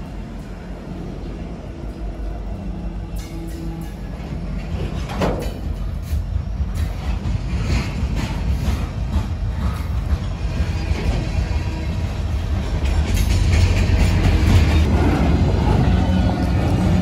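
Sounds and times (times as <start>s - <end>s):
steel wheels rumbling on rail: 0.0s - 17.0s
wheels clacking over rail joints: 3.2s - 17.0s.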